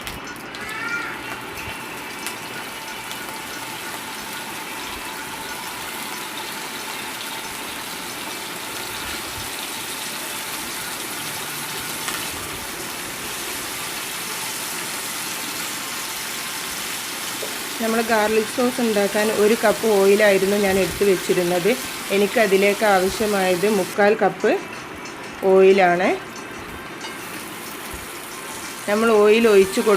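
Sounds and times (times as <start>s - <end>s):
chicken sizzling in hot oil: 0.0s - 29.9s.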